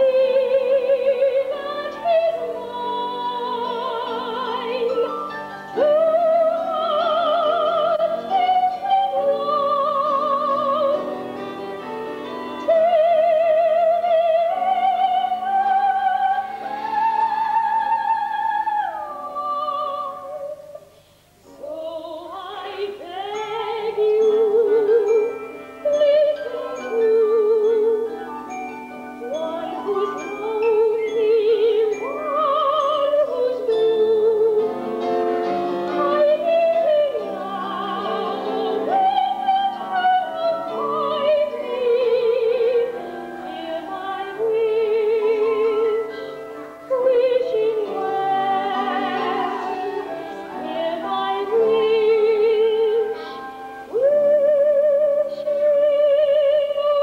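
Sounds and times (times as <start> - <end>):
woman singing opera: 0.0 - 20.9, 21.5 - 28.4, 29.2 - 35.0, 35.9 - 57.0
instrumental accompaniment: 0.0 - 57.0.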